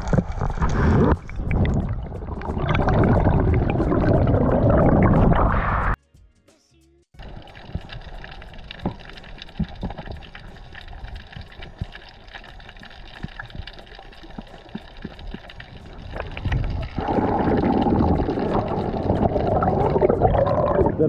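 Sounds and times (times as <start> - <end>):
churning water and bubbles: 0.0 - 6.0, 7.2 - 21.0
muffled underwater ambience: 0.0 - 6.0, 7.2 - 21.0.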